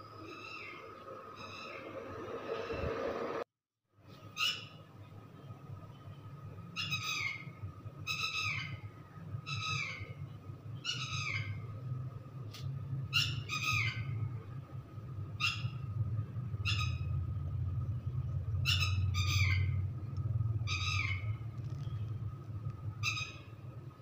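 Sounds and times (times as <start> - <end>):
steady low hum: 4.8 - 24.0.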